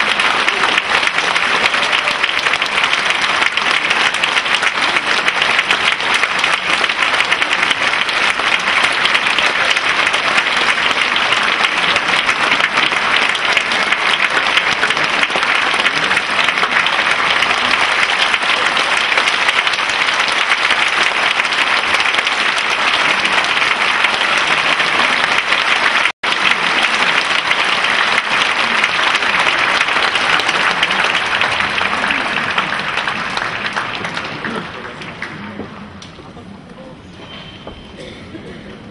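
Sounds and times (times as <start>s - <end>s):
audience applauding: 0.0s - 36.2s.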